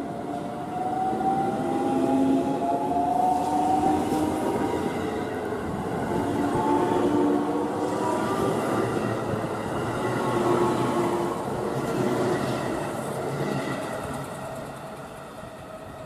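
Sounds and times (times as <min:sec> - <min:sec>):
electric train running on rails: 0:00.0 - 0:16.0.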